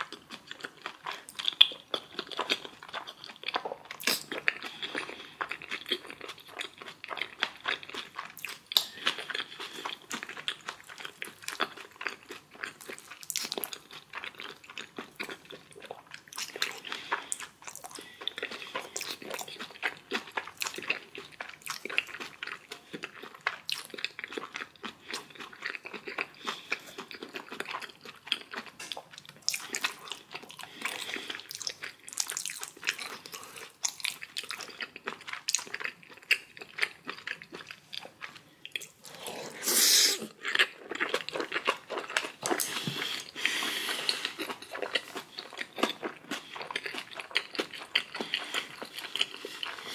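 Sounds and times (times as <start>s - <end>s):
crunchy chewing and biting: 0.0s - 39.7s, 40.3s - 49.9s.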